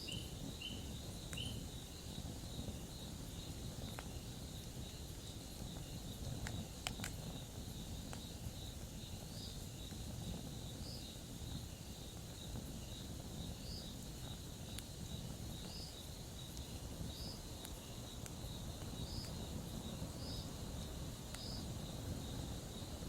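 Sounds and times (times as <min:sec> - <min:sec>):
campfire crackling: 0:00.0 - 0:23.0
crickets chirping: 0:00.0 - 0:23.0.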